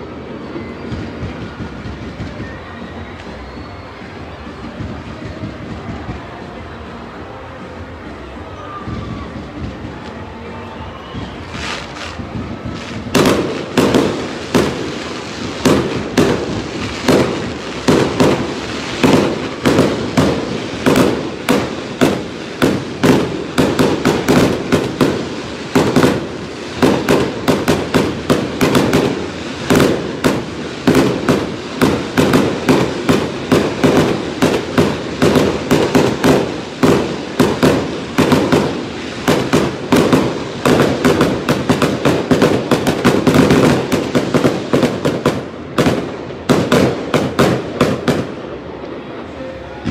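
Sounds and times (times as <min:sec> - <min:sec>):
fireworks bursting: 0:00.0 - 0:49.9.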